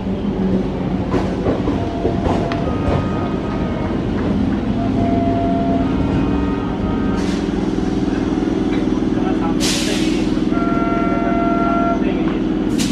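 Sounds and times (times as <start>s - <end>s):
diesel locomotive engine drone: 0.0s - 12.9s.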